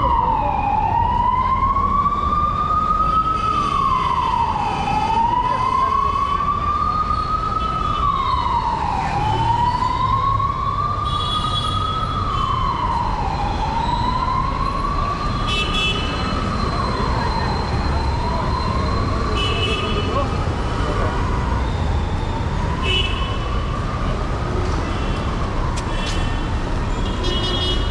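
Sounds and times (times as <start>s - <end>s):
emergency siren wailing: 0.0s - 26.9s
street traffic rumble: 0.0s - 27.9s.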